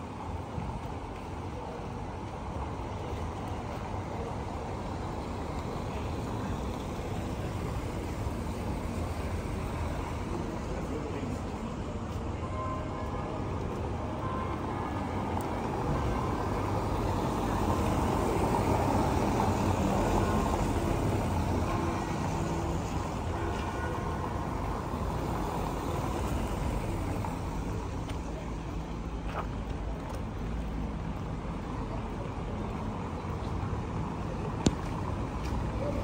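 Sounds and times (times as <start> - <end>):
street noise: 0.0 - 36.0.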